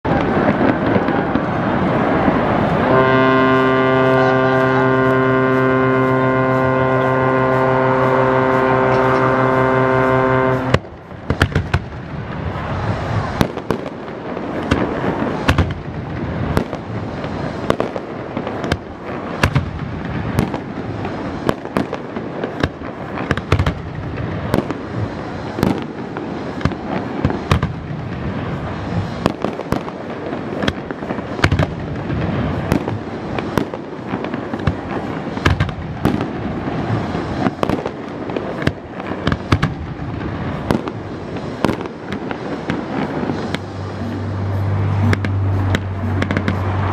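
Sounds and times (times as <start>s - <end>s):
fireworks crackling and banging: 0.0s - 46.9s.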